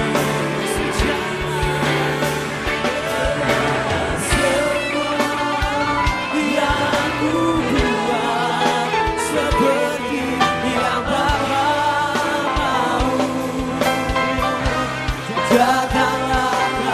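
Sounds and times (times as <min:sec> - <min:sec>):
live band music: 0:00.0 - 0:16.9
steady drum beat: 0:00.0 - 0:16.9.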